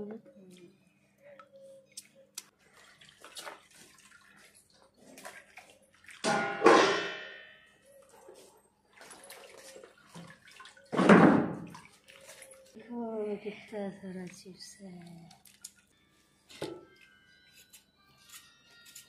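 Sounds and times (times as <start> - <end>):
water sloshing and dripping: 0.0 - 16.0.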